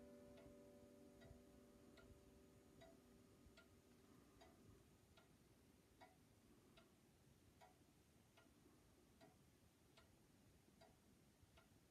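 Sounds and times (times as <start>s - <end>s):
wall clock ticking: 0.0s - 11.9s.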